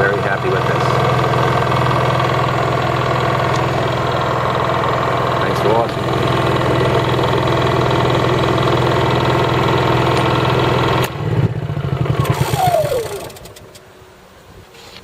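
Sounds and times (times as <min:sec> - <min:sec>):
generator engine running down: 0:00.0 - 0:13.8.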